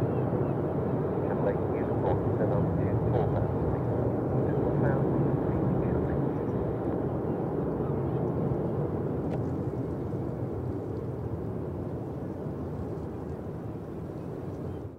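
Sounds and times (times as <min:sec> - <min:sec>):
jet engine rumble: 0:00.0 - 0:14.9.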